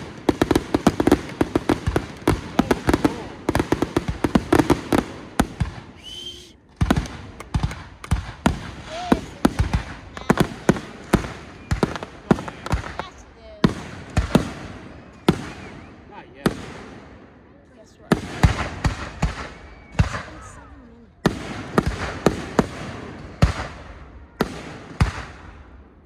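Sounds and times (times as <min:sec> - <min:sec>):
fireworks popping and crackling: 0:00.0 - 0:17.2, 0:18.1 - 0:25.8.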